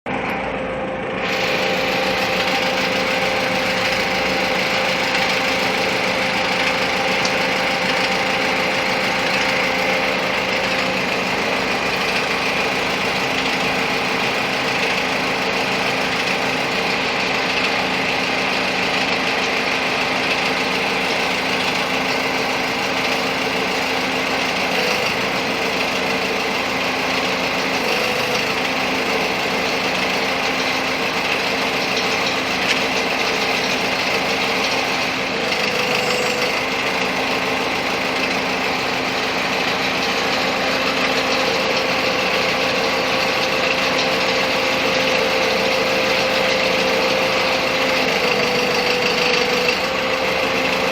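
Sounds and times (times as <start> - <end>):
steady whine: 0.1 - 50.9
truck engine running: 0.1 - 50.9.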